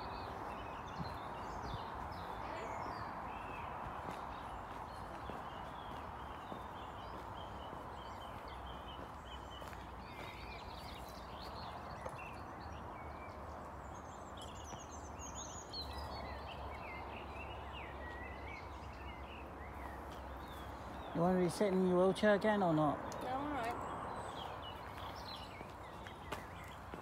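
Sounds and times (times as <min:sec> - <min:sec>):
small birds singing: 0:00.0 - 0:27.0.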